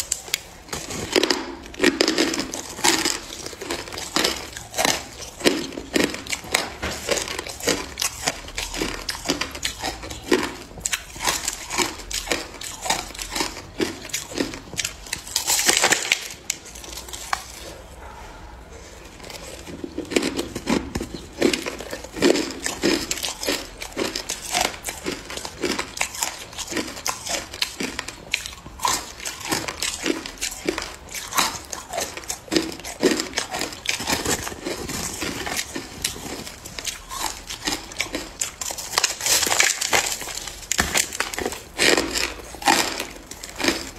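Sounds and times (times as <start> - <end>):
ice being chewed: 0.0 - 43.9.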